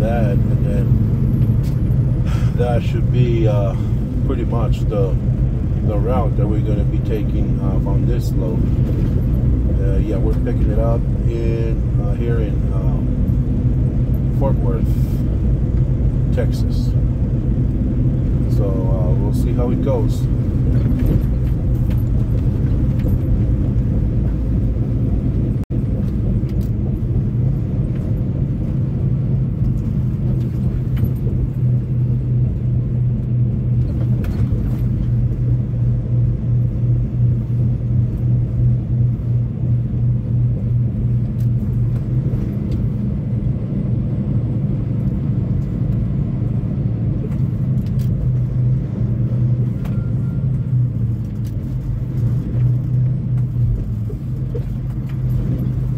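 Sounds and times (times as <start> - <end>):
diesel truck engine running: 0.0 - 55.9.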